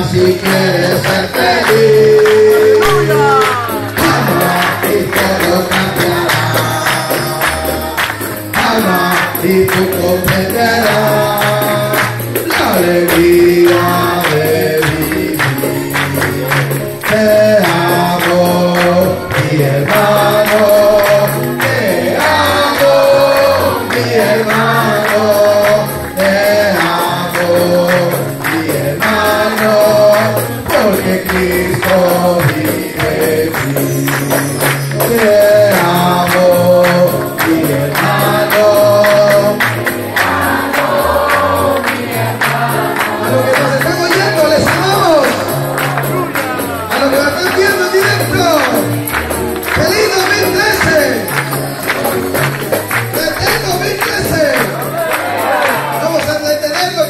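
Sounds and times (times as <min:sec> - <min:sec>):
amplified backing music with bass: 0:00.0 - 0:57.0
congregation singing: 0:00.0 - 0:57.0
man singing into microphone: 0:00.0 - 0:57.0
tambourine shaking: 0:00.0 - 0:57.0.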